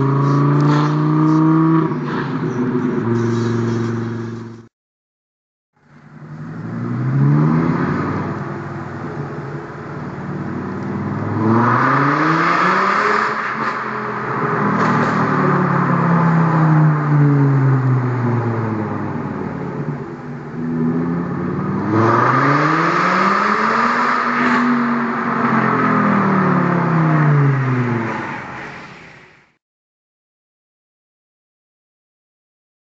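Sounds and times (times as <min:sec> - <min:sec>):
car engine revving: 0:00.0 - 0:04.7, 0:05.8 - 0:28.7.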